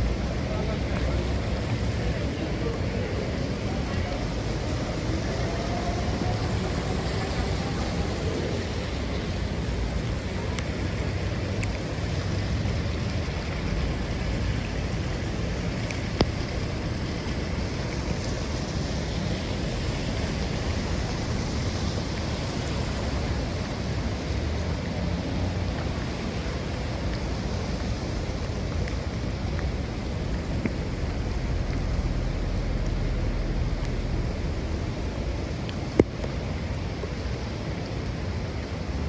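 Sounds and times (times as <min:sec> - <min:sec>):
wind buffeting microphone: 0:00.0 - 0:37.4
rain: 0:00.0 - 0:39.0
wind: 0:00.0 - 0:39.0.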